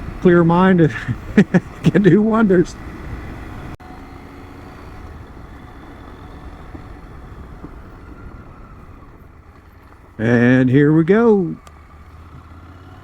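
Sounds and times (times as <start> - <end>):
motorcycle engine rumble: 0.0 - 13.0
road and wind noise: 0.0 - 13.0.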